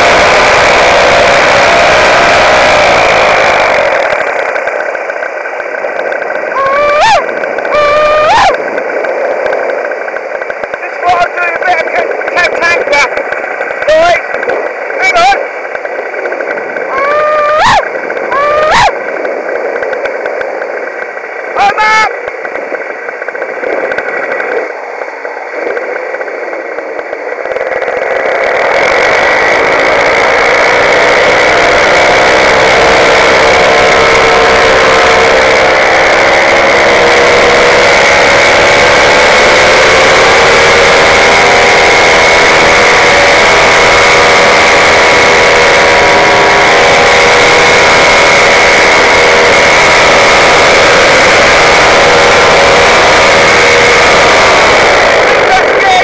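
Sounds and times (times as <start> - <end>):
paramotor engine drone: 0.0 - 56.0.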